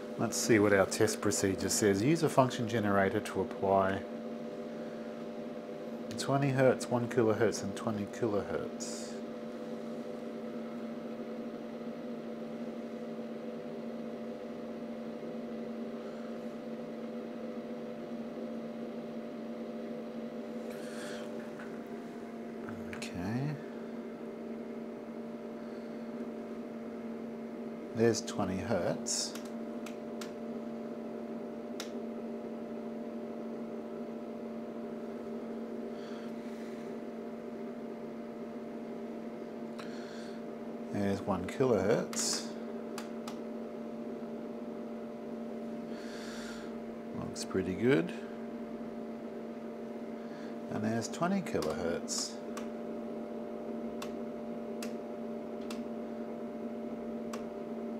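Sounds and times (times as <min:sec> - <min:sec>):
electrical mains hum: 0:00.0 - 0:57.9.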